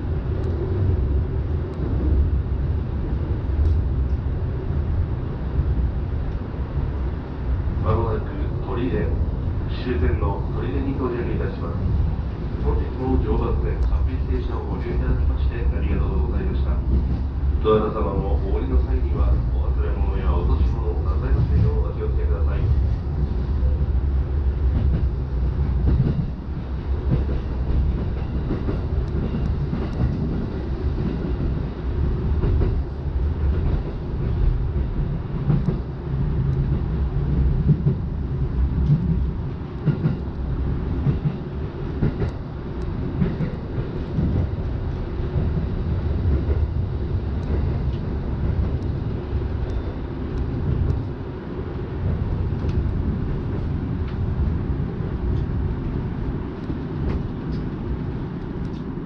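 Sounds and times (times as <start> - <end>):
train wheels rumbling: 0.0 - 59.0.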